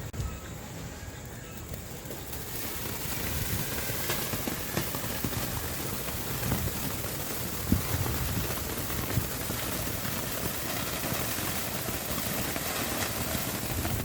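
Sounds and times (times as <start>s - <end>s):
firework crackles: 0.0s - 14.0s
firework fountain hissing: 0.1s - 14.0s.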